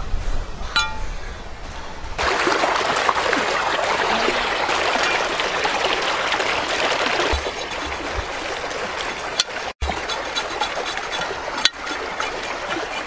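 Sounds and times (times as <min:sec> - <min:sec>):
stream rushing over rocks: 0:02.2 - 0:13.0.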